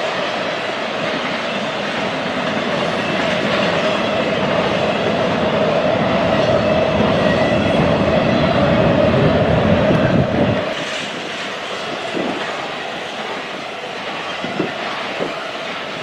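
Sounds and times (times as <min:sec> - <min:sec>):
freight train rumble and rattle: 0:00.0 - 0:16.0.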